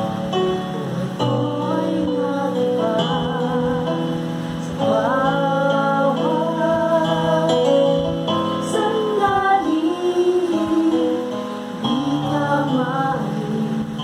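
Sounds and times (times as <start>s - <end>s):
person singing: 0.0s - 14.0s
slow worship music: 0.0s - 14.0s.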